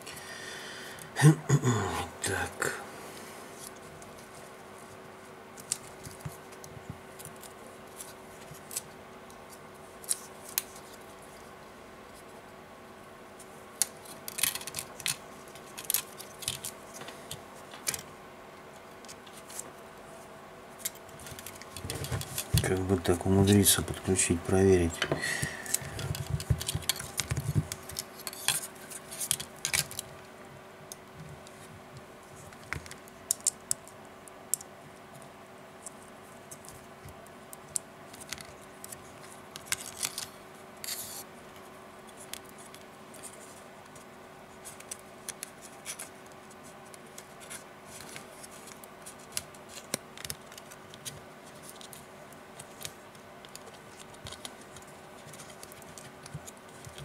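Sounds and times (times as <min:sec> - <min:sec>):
faint steady hum: 0:00.0 - 0:57.0
hands handling tablet parts: 0:03.6 - 0:11.4, 0:13.4 - 0:18.1, 0:18.8 - 0:30.2, 0:31.2 - 0:57.0.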